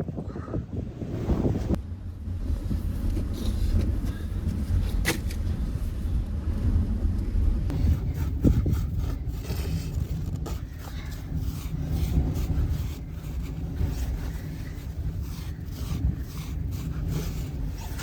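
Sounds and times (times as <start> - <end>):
blizzard wind buffeting microphone: 0.0 - 18.0.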